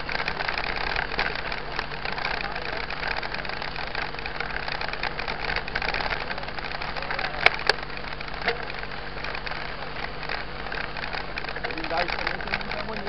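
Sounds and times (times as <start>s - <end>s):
bike rattling: 0.0s - 13.0s
bike tyres crunching on gravel: 0.0s - 13.0s.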